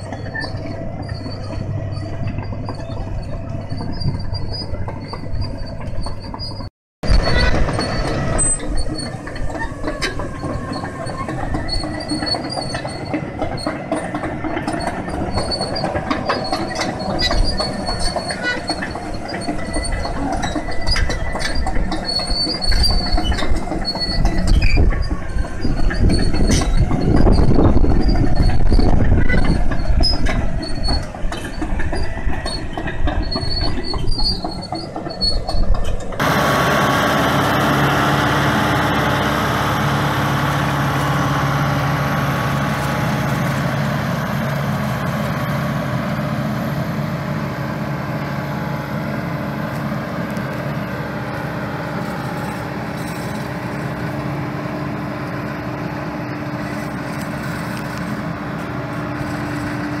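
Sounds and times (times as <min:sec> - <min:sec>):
bulldozer diesel engine: 0:00.0 - 1:00.0
steel tracks clanking and squealing: 0:00.0 - 1:00.0
tractor engine under load: 0:00.0 - 1:00.0.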